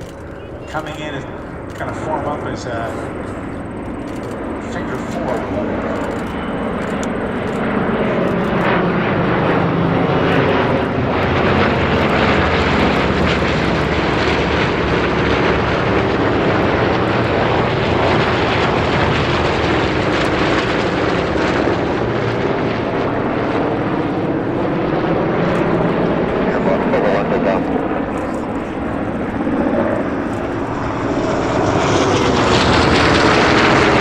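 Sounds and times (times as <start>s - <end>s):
propeller aircraft engine drone: 0.0s - 34.0s.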